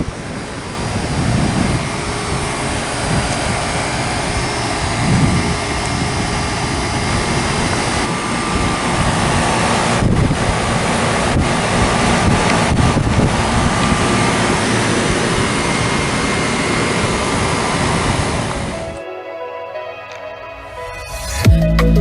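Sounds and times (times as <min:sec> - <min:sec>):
condenser fan rushing: 0:00.0 - 0:19.0.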